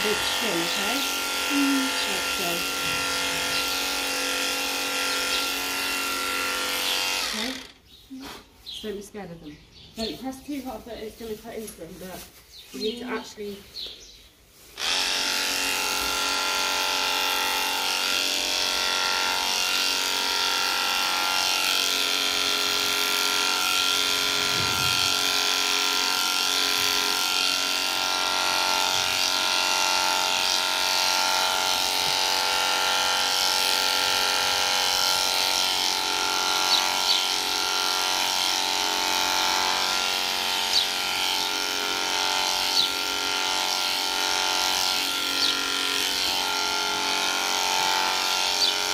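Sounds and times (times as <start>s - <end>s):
electric clippers humming: 0.0s - 8.8s, 14.6s - 48.9s.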